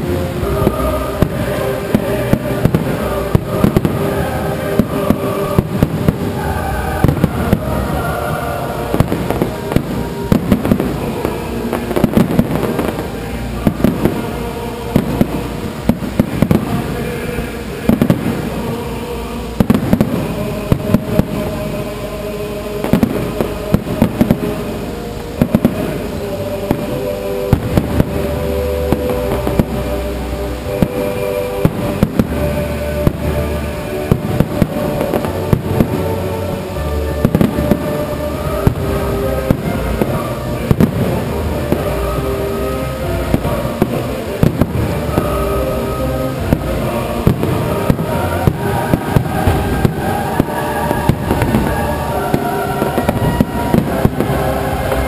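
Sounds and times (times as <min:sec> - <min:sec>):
fireworks bangs and crackles: 0:00.0 - 0:55.0
music with held notes: 0:00.0 - 0:55.0.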